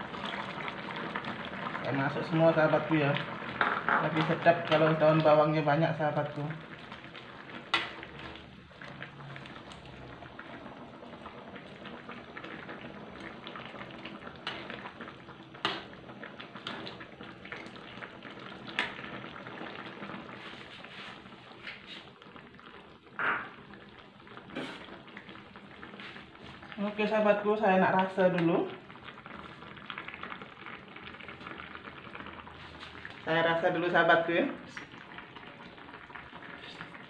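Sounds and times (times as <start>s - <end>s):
curry bubbling in a wok: 0.0s - 37.0s.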